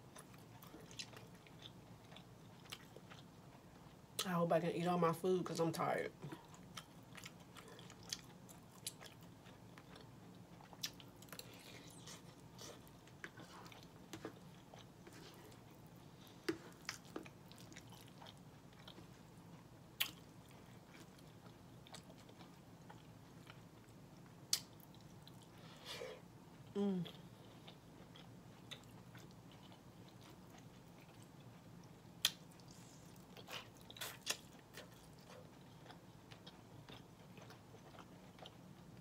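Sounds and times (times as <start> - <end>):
close chewing of food: 0.0 - 4.3, 5.8 - 39.0
faint low hum: 0.0 - 39.0.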